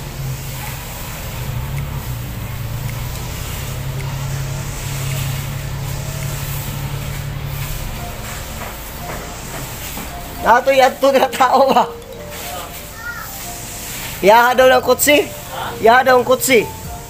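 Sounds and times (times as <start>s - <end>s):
engine low hum: 0.0s - 17.0s.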